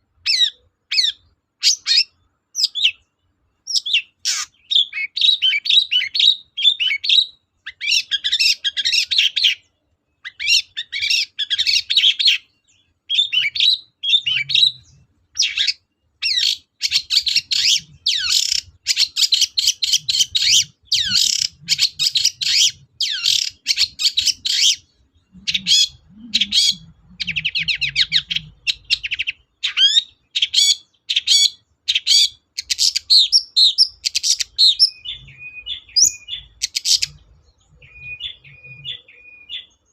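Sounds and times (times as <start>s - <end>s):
mimicked bird calls: 0.0s - 39.9s
rapid bird trills: 0.2s - 39.9s.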